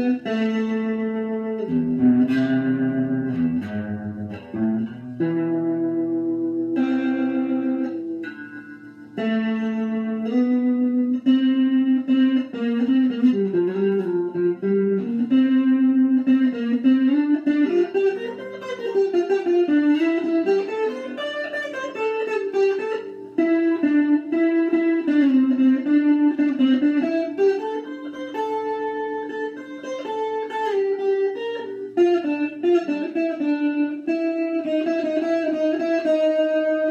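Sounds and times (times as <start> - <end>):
electric guitar melody: 0.0 - 36.9.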